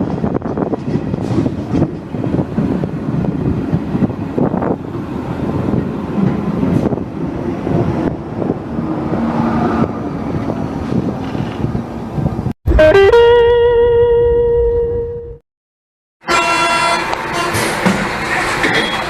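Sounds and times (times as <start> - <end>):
train rumbling: 0.0 - 12.6, 16.3 - 19.0.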